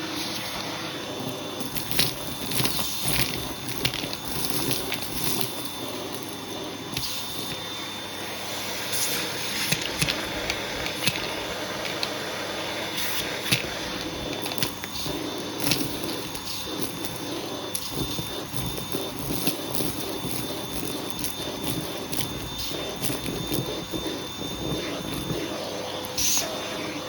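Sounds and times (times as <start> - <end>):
vacuum cleaner running with whine: 0.0 - 27.0
debris rattling up hose: 1.1 - 7.7, 8.9 - 26.3.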